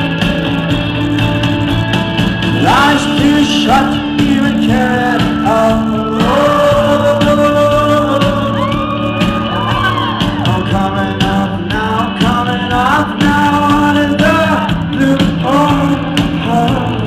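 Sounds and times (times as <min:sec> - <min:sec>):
live rock band playing: 0:00.0 - 0:17.0
person singing: 0:02.6 - 0:17.0.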